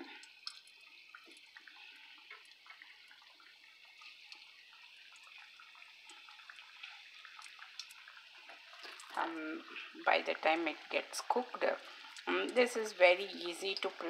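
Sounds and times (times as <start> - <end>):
patties frying in hot oil: 0.0 - 14.0.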